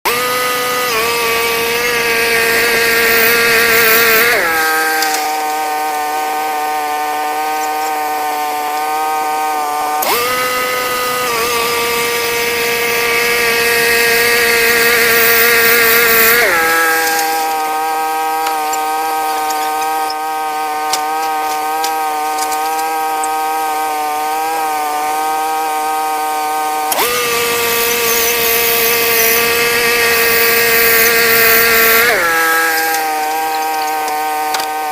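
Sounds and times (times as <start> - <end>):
band sawmill cutting: 0.0 - 34.9.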